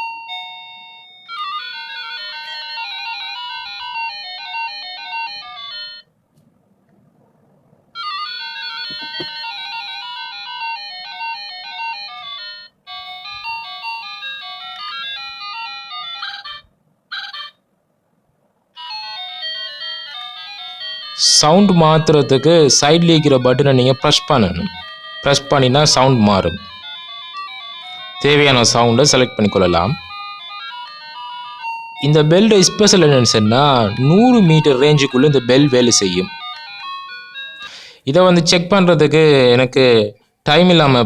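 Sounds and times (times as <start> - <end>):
doorbell electronic chime tunes: 0.0 - 6.0, 8.0 - 17.5, 18.8 - 37.8.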